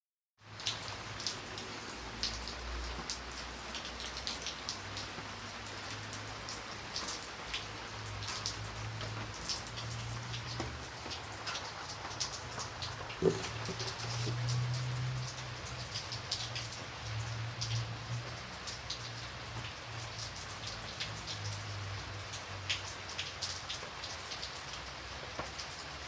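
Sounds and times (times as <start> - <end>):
light rain pattering: 0.4 - 26.0.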